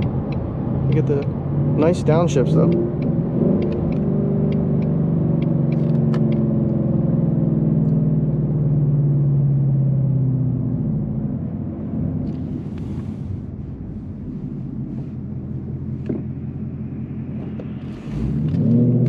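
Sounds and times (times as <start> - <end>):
car engine droning inside cabin: 0.0 - 19.0.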